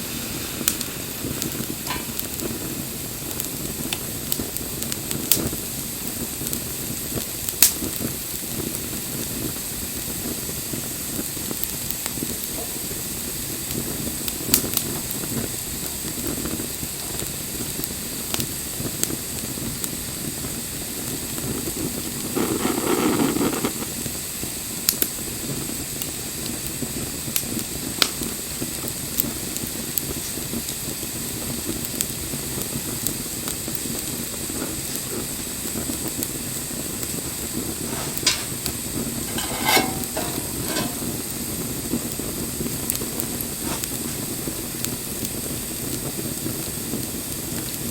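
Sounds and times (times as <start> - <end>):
bonfire flames rushing: 0.0 - 47.9
fire crackling and popping: 0.0 - 47.9.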